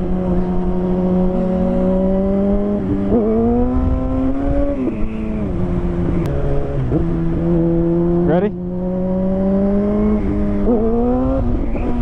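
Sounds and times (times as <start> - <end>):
motorcycle engine revving: 0.0 - 12.0
wind rumble on microphone: 0.0 - 12.0.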